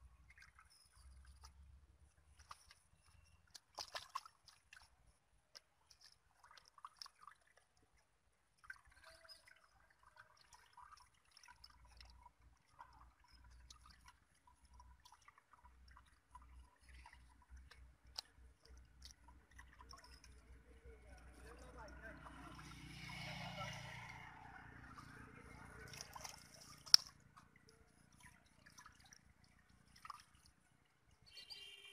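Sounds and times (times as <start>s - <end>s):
wet mud squelching and dripping: 0.0s - 31.5s
small clicks and splashes: 0.0s - 31.7s.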